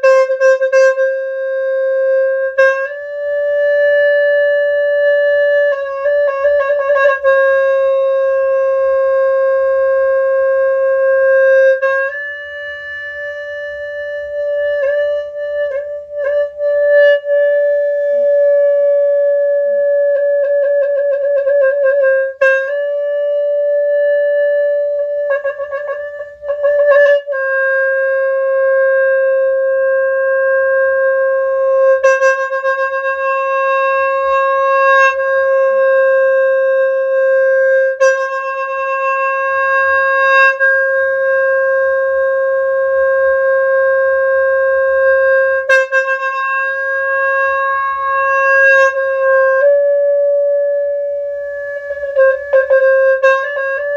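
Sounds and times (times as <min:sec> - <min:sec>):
reedy horn note: 0:00.0 - 0:53.9.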